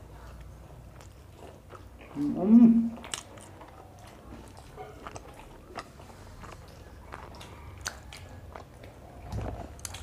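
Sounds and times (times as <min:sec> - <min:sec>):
chewing and wet lip smacks: 0:00.2 - 0:10.0.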